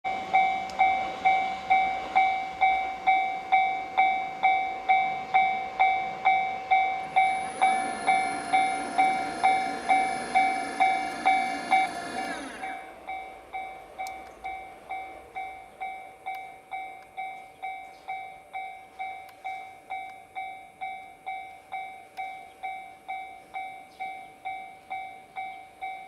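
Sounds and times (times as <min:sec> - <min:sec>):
level-crossing bell clanging: 0:00.1 - 0:26.0
train high tones: 0:00.1 - 0:26.0.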